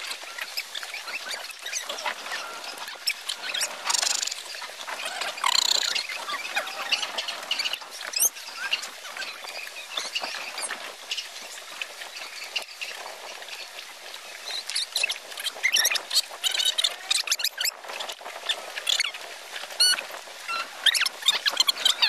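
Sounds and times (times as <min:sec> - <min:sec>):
small waves lapping against pilings: 0:00.0 - 0:22.0.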